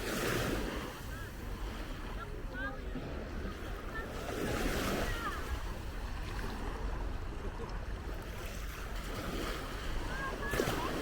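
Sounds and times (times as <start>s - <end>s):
sea waves breaking: 0.0s - 11.0s.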